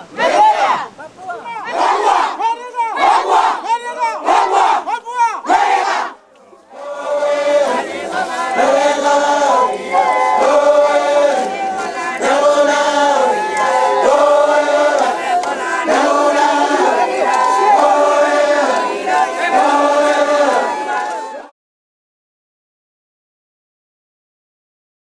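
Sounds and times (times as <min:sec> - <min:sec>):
crowd chanting in unison: 0:00.0 - 0:21.5.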